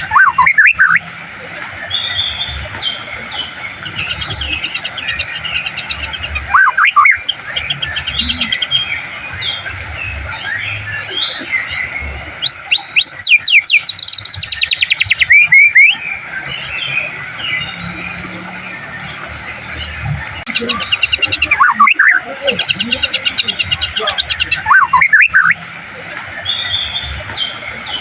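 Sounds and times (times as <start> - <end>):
bird singing whistles and trills: 0.0 - 28.0.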